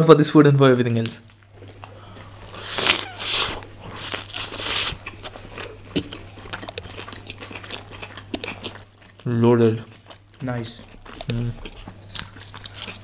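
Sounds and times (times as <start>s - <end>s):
chewing with small clicks: 1.0s - 13.0s
people biting into pizza: 1.6s - 9.2s, 9.8s - 13.0s.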